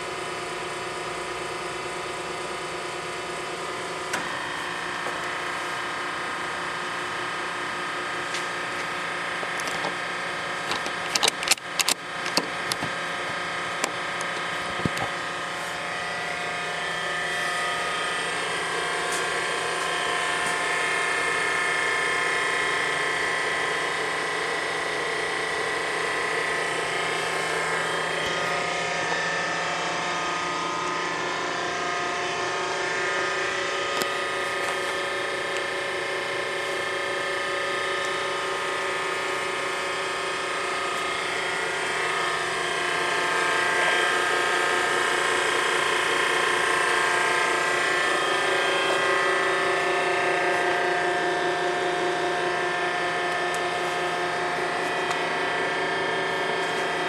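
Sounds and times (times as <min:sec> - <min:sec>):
hydraulic power unit droning: 0:00.0 - 0:57.0.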